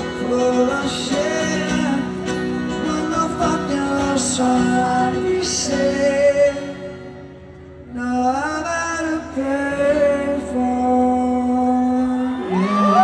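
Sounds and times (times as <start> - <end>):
person singing: 0.0 - 7.1, 7.8 - 13.0
live pop-rock band: 0.0 - 13.0.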